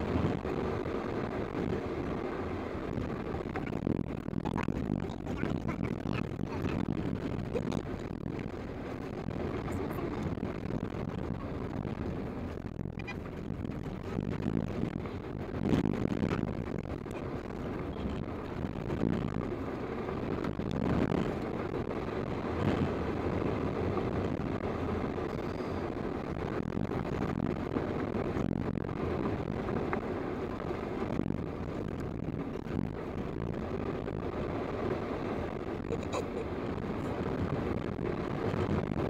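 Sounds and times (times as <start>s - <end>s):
tyres and engine rumble: 0.0s - 39.0s.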